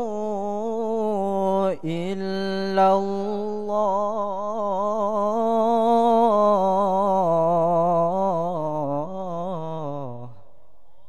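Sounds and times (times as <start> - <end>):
boy reciting melodically: 0.0 - 10.3.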